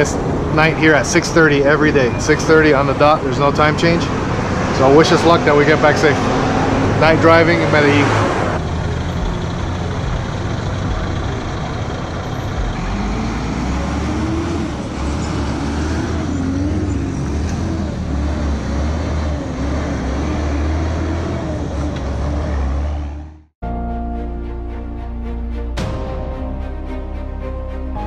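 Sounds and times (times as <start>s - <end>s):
motorcycle engine and road drone: 0.0s - 23.6s.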